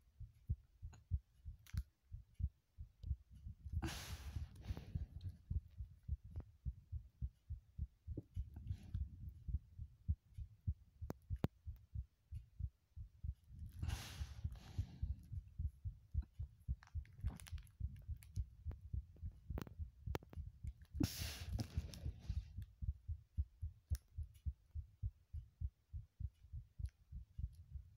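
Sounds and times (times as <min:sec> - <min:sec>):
heartbeat thumps: 0:00.0 - 0:27.9.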